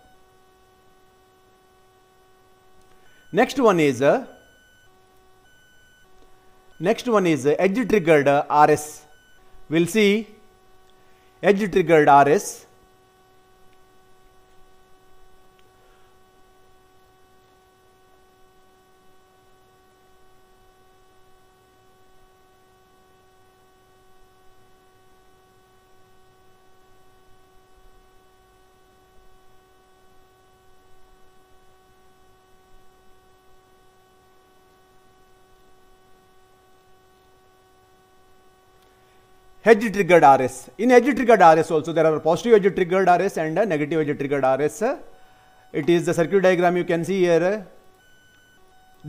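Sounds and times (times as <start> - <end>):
faint electrical hum: 0.0 - 49.0.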